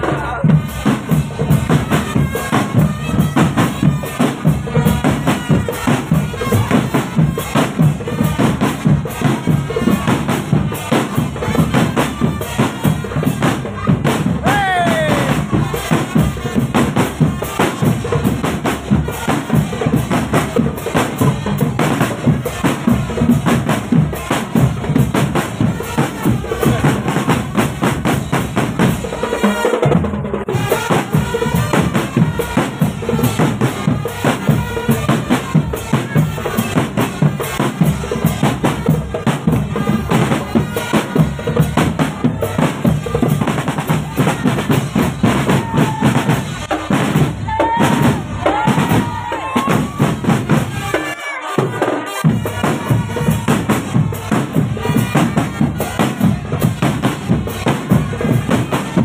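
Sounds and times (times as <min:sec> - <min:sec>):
bass drums: 0:00.0 - 0:59.0
marching drum band: 0:00.0 - 0:59.0
snare drums: 0:00.0 - 0:59.0.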